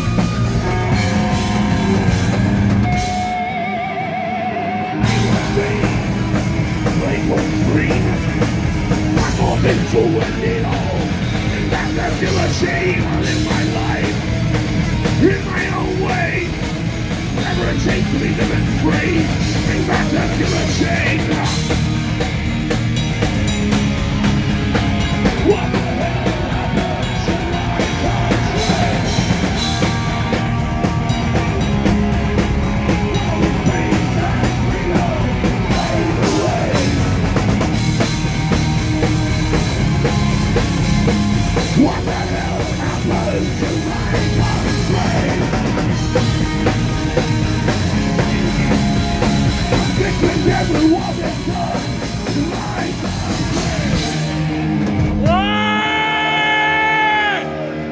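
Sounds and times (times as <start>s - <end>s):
fast drumming: 0.0s - 3.5s, 5.0s - 56.0s
distorted electric guitars: 0.0s - 57.9s.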